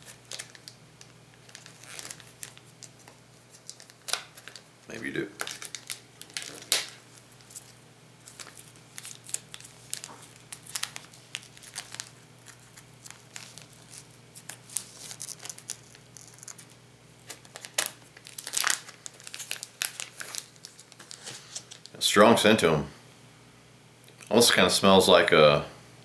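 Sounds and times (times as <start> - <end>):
plastic package crinkling: 0.0 - 22.0.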